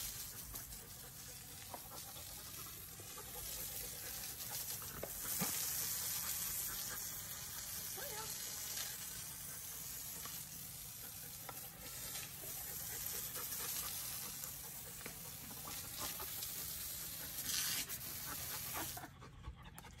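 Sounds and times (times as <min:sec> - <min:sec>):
hose spraying onto wet concrete: 0:00.0 - 0:19.2.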